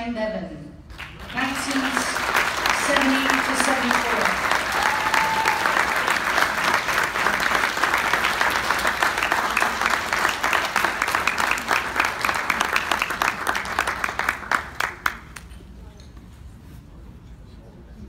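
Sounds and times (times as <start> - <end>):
audience applauding: 0.9 - 15.4.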